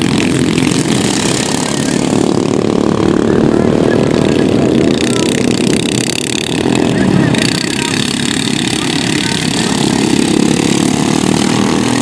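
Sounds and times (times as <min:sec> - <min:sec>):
lawn mower engines droning: 0:00.0 - 0:12.0.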